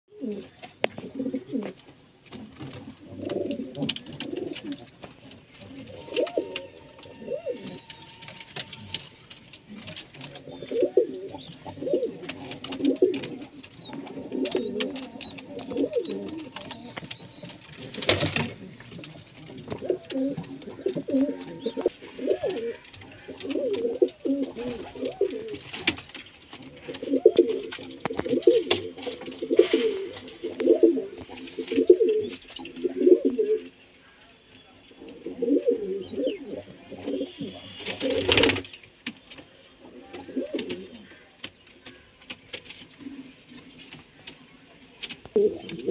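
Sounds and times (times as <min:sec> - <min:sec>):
pigeons cooing: 0:00.1 - 0:33.8, 0:35.0 - 0:38.8, 0:39.8 - 0:41.3, 0:45.3 - 0:45.9.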